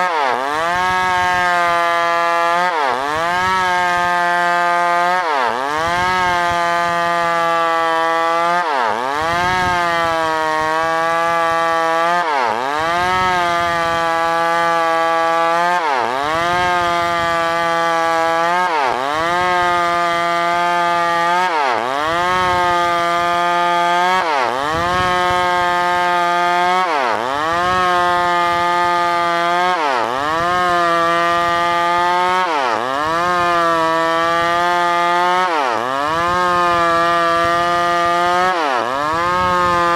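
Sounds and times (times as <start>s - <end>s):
chainsaw sawing wood: 0.0s - 39.9s.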